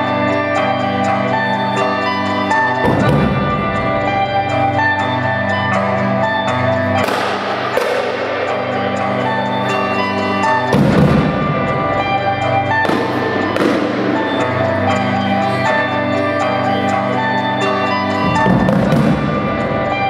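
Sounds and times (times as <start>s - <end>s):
electric guitar notes: 0.0s - 20.0s.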